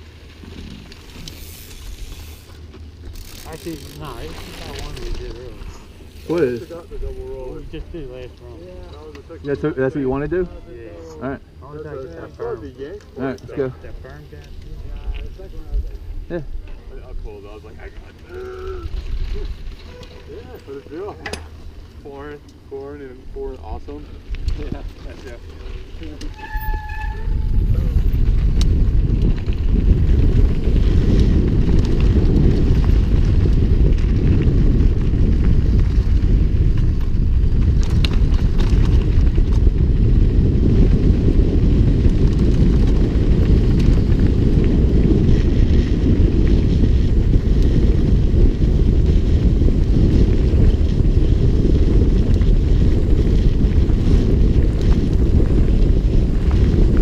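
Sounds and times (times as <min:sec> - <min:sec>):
bike ticks and rattles: 0:00.0 - 0:57.0
wind rumble on microphone: 0:00.0 - 0:57.0.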